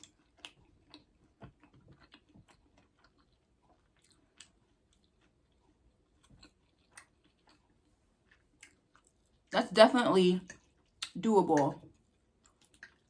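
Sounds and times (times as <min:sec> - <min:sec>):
person chewing food: 0:00.0 - 0:09.6, 0:10.4 - 0:13.0.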